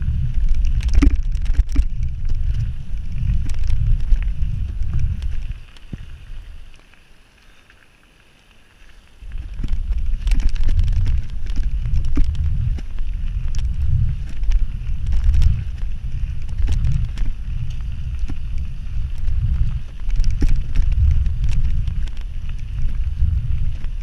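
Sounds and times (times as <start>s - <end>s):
wind buffeting microphone: 0.0s - 6.7s, 9.2s - 24.0s
bike tyres rattling over stones: 0.0s - 24.0s.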